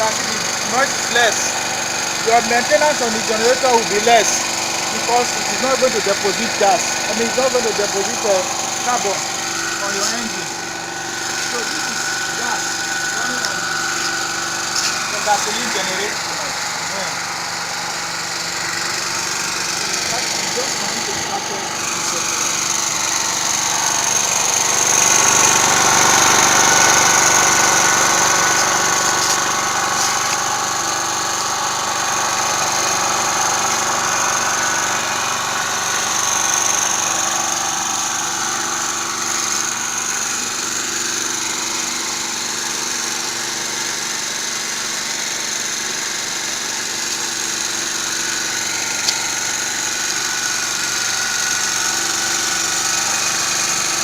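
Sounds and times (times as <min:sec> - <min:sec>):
small generator engine running: 0:00.0 - 0:54.0.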